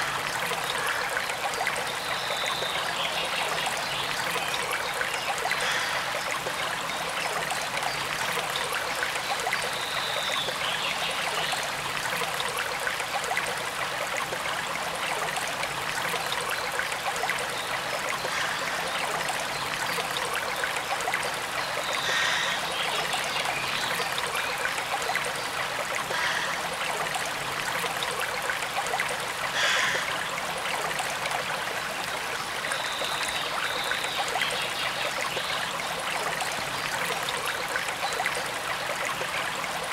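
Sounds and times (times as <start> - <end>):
stream running and trickling: 0.0 - 39.9.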